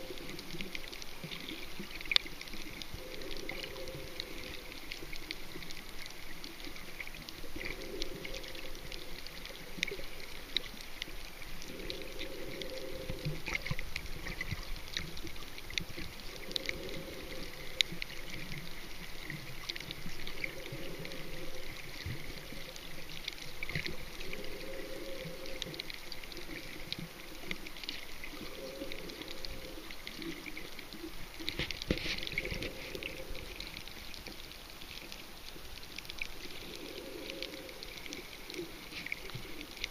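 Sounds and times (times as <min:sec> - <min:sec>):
crackling clicks: 0:00.0 - 0:39.9
water bubbling and sloshing: 0:00.0 - 0:39.9.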